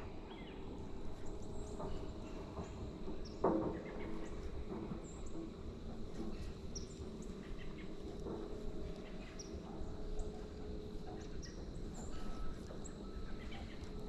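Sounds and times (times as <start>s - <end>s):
birds chirping: 0.0s - 14.0s
low background noise: 0.0s - 14.0s.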